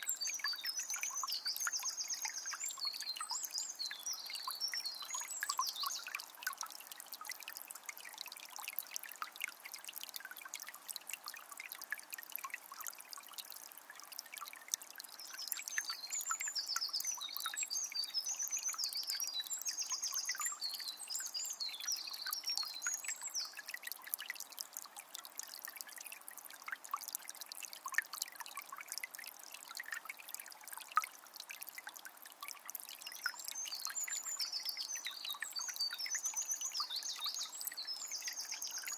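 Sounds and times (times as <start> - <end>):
river trickling and splashing: 0.0 - 38.9.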